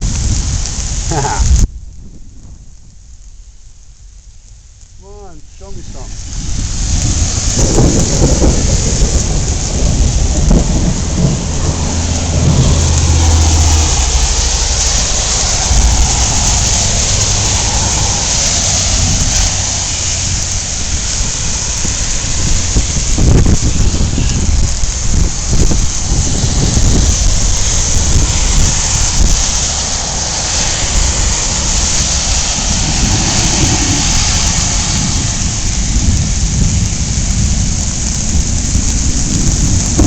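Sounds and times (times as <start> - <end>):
heavy rain pouring: 0.0 - 40.0
low rumble of thunder: 0.0 - 40.0.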